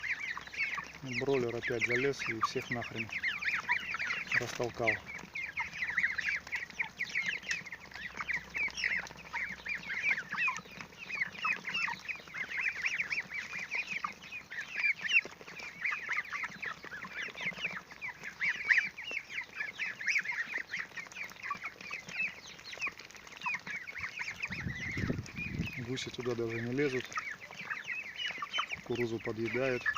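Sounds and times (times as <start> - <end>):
young poultry peeping: 0.0 - 29.9.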